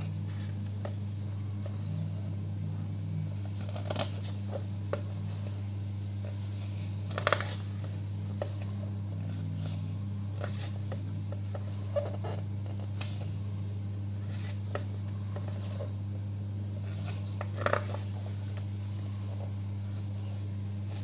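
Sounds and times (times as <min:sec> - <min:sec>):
book pages turning: 0:00.0 - 0:16.1, 0:16.7 - 0:21.0
steady low hum: 0:00.0 - 0:21.0.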